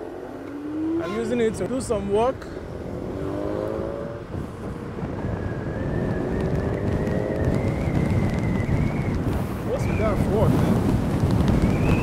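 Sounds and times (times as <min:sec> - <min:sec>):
wind buffeting microphone: 0:00.6 - 0:12.0.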